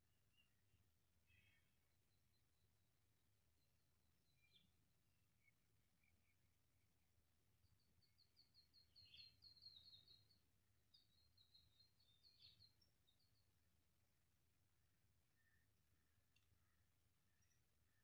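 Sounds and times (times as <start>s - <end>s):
faint bird song: 0.0s - 18.0s.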